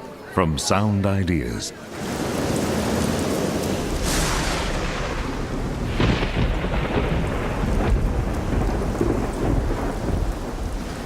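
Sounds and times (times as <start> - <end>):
steady rain: 0.2 - 11.0
deep rolling thunder: 2.0 - 11.0
sharp thunder claps: 2.0 - 11.0.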